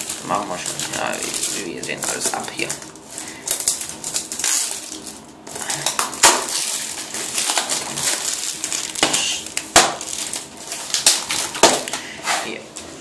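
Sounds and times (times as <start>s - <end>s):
plastic wrap tearing and crinkling: 0.0s - 12.5s.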